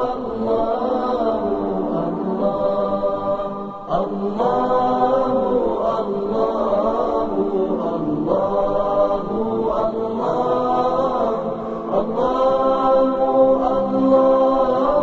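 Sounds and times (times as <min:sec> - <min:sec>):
wordless sung aah vocals: 0:00.0 - 0:15.0.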